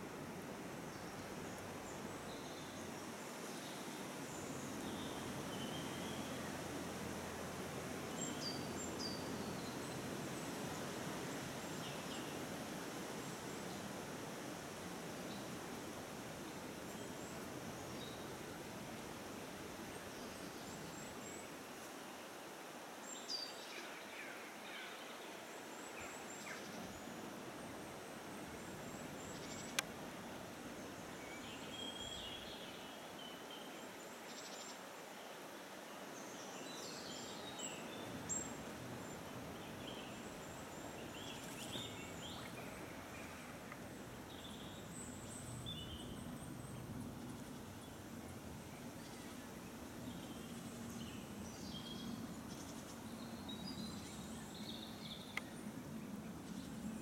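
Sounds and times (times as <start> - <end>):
faint outdoor background noise: 0.0 - 57.0.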